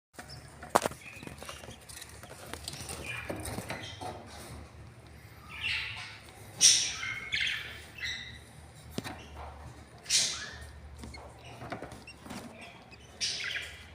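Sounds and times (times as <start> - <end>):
budgerigars chirping: 1.0 - 4.2, 5.3 - 9.4, 10.0 - 13.9.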